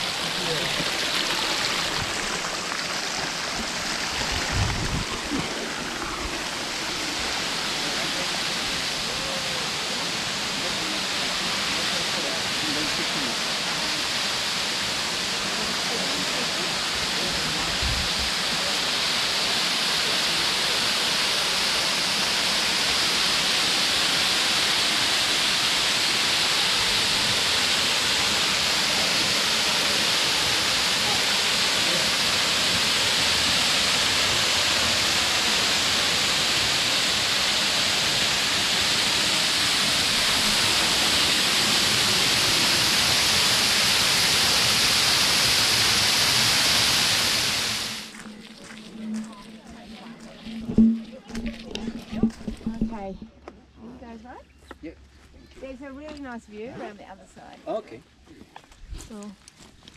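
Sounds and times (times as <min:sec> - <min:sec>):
waterfall rushing: 0:00.0 - 0:48.2.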